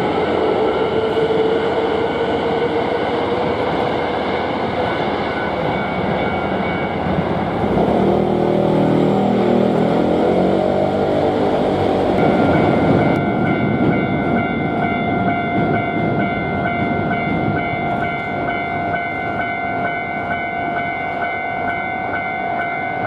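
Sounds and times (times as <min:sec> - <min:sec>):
crossing warning bell ringing: 0:00.0 - 0:10.4, 0:12.2 - 0:23.0
electric train rumbling past: 0:00.0 - 0:23.0.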